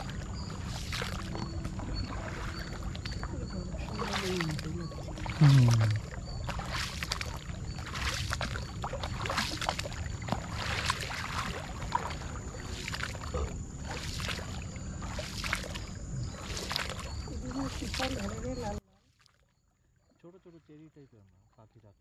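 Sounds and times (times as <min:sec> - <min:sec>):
paddle splashing in water: 0:00.0 - 0:19.5.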